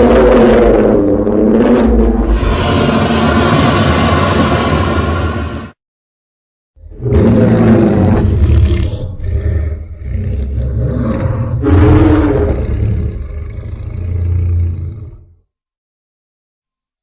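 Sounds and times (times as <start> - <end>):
monster roar with deep rumble: 0.0 - 5.1, 6.8 - 15.4.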